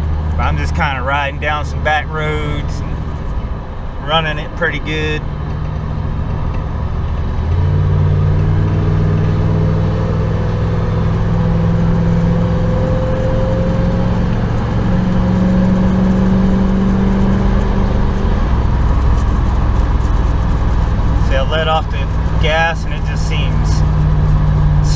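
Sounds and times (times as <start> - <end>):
truck engine accelerating: 0.0 - 24.9.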